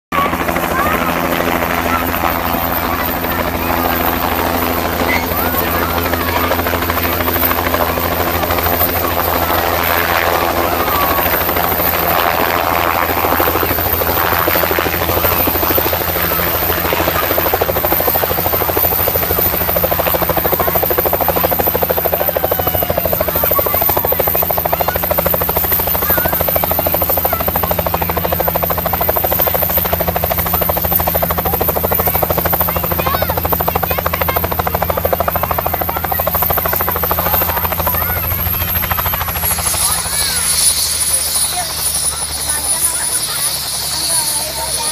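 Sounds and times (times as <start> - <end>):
helicopter rotor beating: 0.1 - 44.9.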